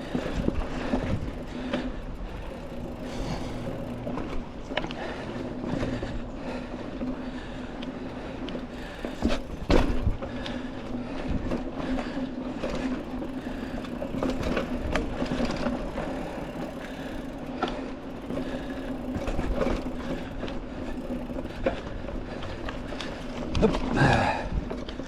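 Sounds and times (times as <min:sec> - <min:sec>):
bike rattling and knocking: 0:00.0 - 0:25.0
bike tires rolling on dirt: 0:00.0 - 0:25.0.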